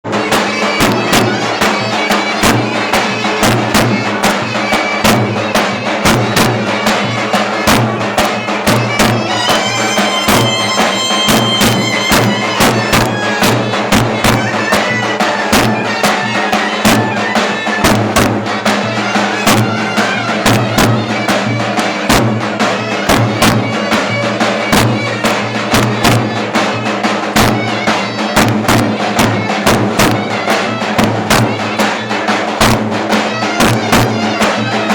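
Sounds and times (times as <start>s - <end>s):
bass drum beat: 0.1s - 26.5s, 27.3s - 31.8s, 32.6s - 34.9s
clarinet playing folk dance melody: 0.1s - 34.9s.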